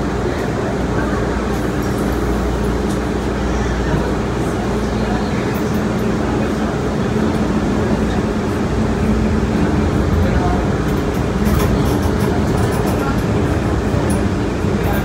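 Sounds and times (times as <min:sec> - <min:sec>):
light-rail car rumbling in tunnel: 0:00.0 - 0:15.0.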